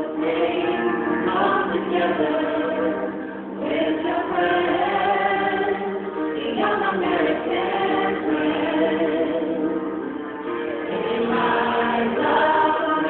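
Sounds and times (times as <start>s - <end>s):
women singing together: 0.0s - 9.9s, 10.8s - 13.0s.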